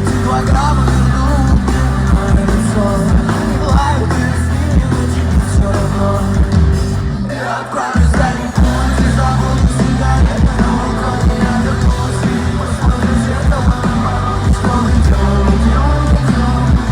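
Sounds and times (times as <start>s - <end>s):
person singing: 0.0s - 16.9s
rock band playing live: 0.0s - 16.9s.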